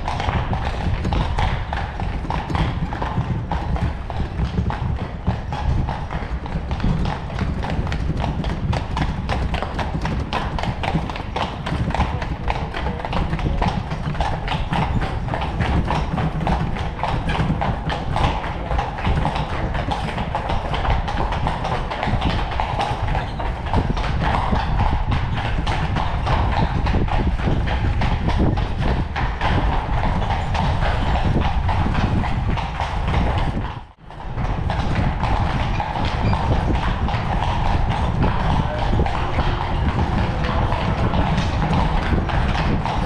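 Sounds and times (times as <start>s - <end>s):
horse hooves clip-clopping: 0.0s - 43.0s
low carriage rumble: 0.0s - 43.0s.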